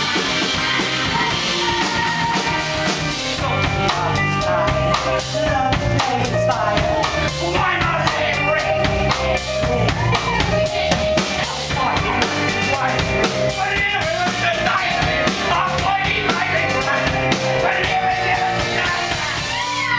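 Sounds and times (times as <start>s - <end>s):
drum kit beat: 0.0s - 19.9s
live band music: 0.0s - 19.9s
voices singing: 0.0s - 19.9s.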